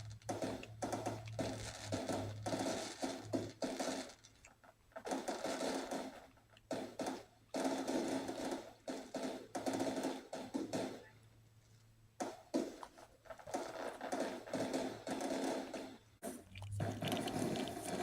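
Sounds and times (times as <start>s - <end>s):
fireworks crackling and popping: 0.0s - 11.1s, 12.2s - 18.0s.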